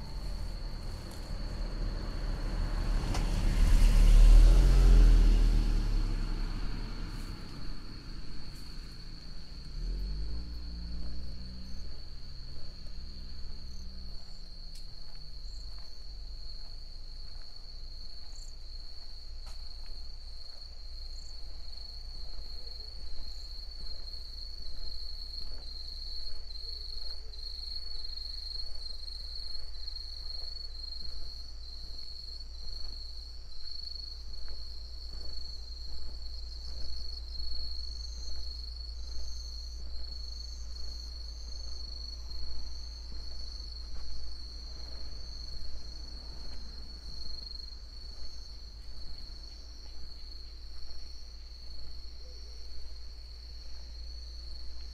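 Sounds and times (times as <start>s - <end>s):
night insects trilling: 0.0s - 54.9s.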